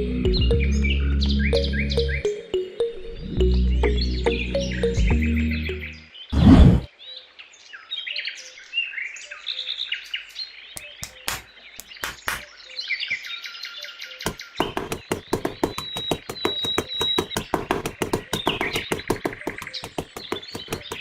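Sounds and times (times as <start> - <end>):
small birds chirping: 0.2 - 21.0.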